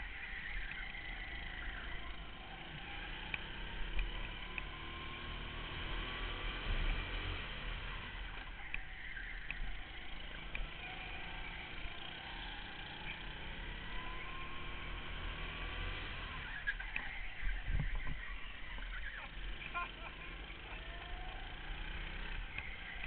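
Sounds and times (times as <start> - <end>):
go-kart engine: 0.0 - 23.0.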